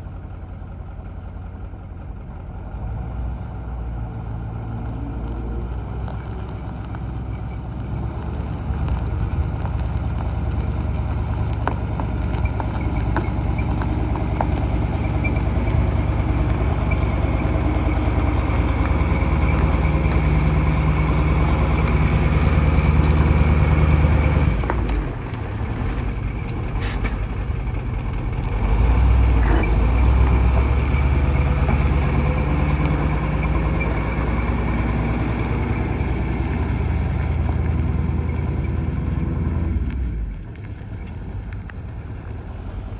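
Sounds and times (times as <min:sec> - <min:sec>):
truck engine running: 0:00.0 - 0:42.9.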